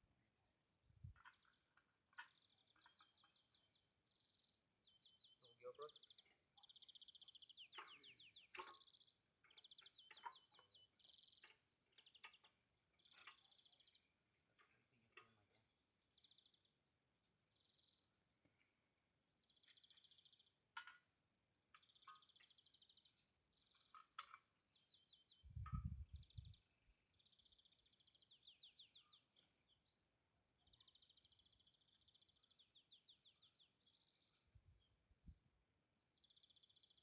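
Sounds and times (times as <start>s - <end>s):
songbird trilling and chirping: 1.1s - 16.7s, 17.5s - 18.1s, 19.4s - 20.6s, 21.7s - 30.0s, 30.6s - 35.0s, 36.2s - 37.0s.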